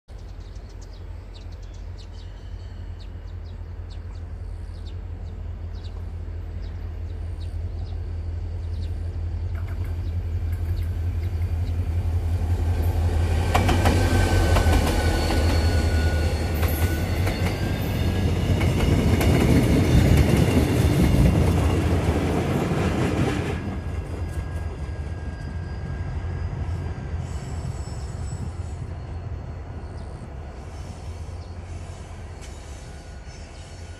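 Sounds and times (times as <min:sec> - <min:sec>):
diesel locomotive engine drone: 0:00.1 - 0:33.9.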